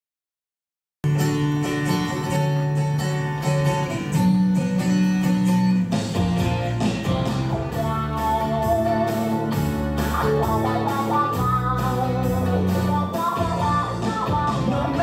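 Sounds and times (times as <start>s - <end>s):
guitar-led song playing: 1.0s - 15.0s.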